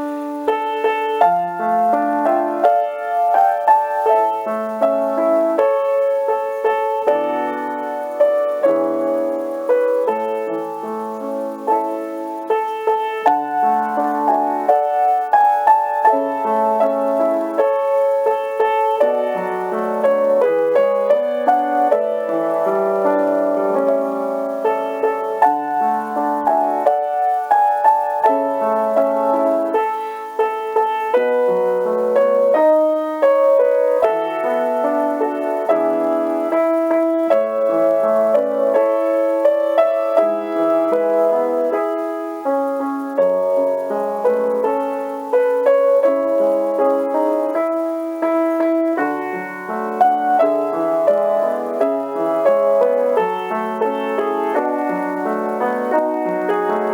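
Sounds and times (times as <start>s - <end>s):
solo piano playing: 0.0s - 56.9s.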